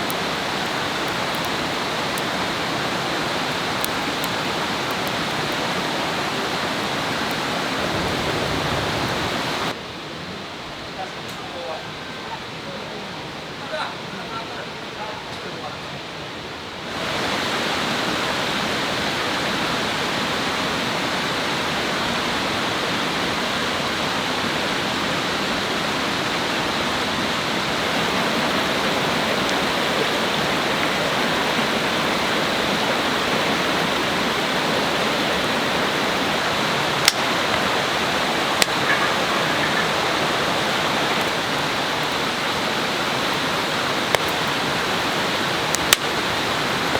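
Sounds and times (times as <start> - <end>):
river water rushing: 0.0 - 10.4, 16.8 - 46.9.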